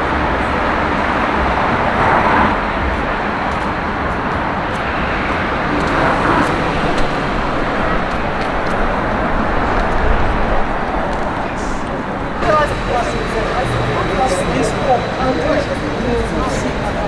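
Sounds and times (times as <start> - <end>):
cars passing: 0.0 - 17.0.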